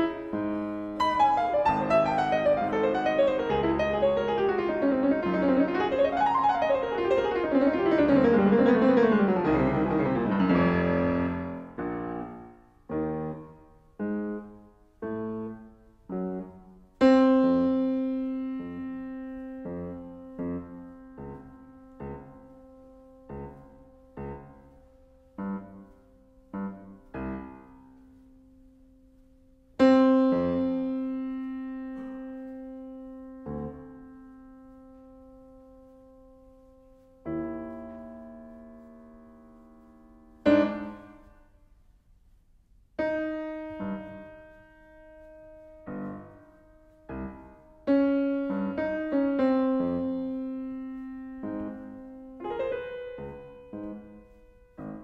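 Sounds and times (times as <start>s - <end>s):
grand piano playing: 0.0s - 28.8s, 29.7s - 41.6s, 43.0s - 55.0s.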